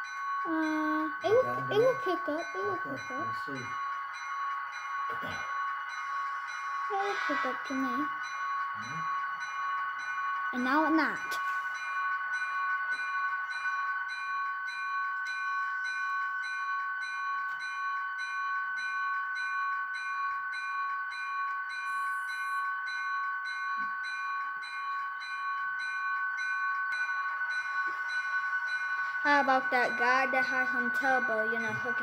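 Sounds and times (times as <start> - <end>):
bell-like ring: 0.0 - 32.0
model locomotive electronic tone: 0.0 - 32.0.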